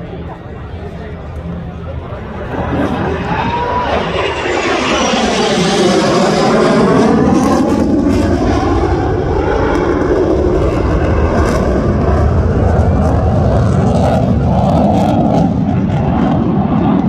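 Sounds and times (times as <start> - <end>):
jet flying past overhead: 0.0 - 17.0.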